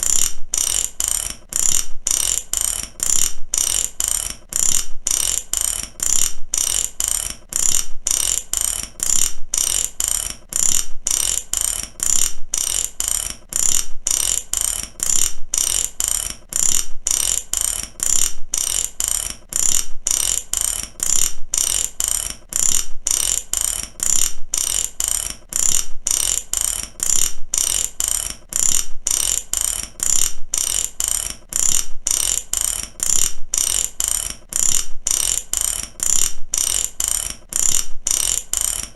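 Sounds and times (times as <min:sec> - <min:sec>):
ratchet wrench clicking: 0:00.0 - 0:38.9.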